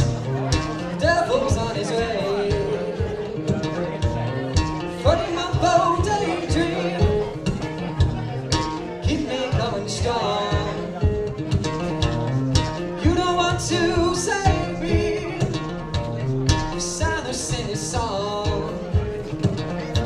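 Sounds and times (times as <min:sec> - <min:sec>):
person singing: 0:00.0 - 0:12.1, 0:12.8 - 0:20.0
guitar with steady beat: 0:00.0 - 0:20.0.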